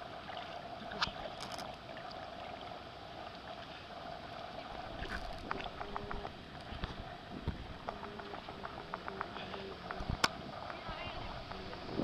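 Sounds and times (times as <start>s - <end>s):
steady hum: 0.0s - 12.0s
water sloshing and splashing: 0.0s - 12.0s.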